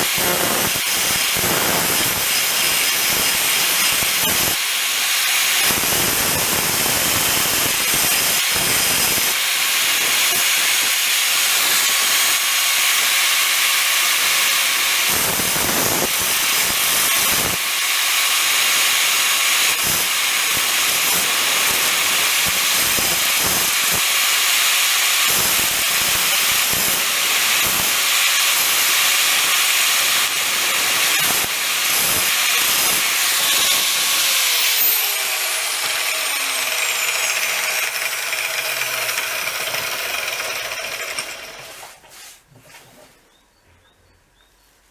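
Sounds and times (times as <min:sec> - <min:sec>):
grinder wheel grinding metal: 0:00.0 - 0:41.8.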